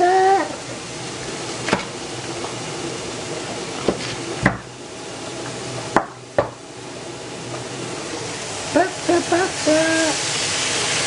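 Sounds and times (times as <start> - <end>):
meatballs sizzling in a pan: 0.0 - 11.0.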